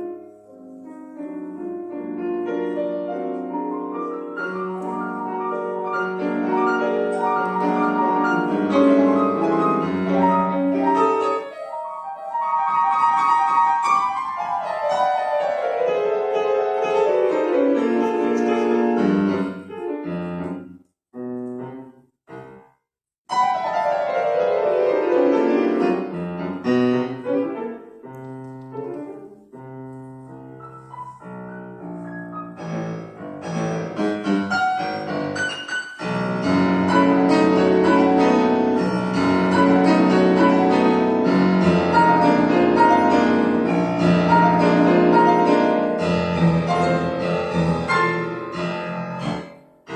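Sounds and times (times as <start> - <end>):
solo piano piece: 0.0 - 49.9.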